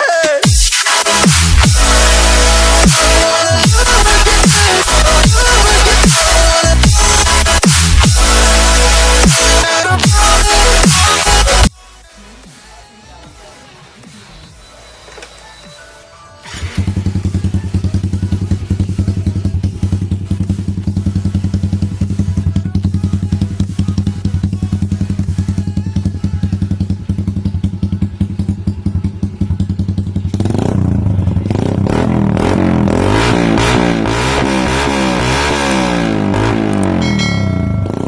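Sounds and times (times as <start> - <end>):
motorcycle engine popping and revving: 0.5 - 11.7, 16.4 - 38.0.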